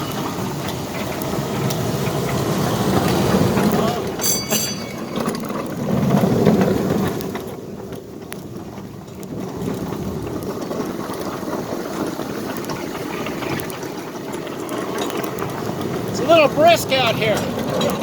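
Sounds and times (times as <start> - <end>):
small train rumbling on track: 0.0 - 18.0.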